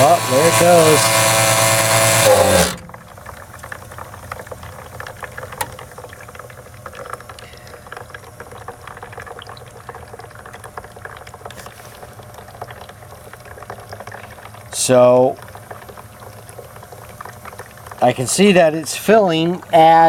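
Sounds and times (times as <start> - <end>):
pump motor humming: 0.0 - 20.0
water bubbling and crackling: 0.0 - 20.0.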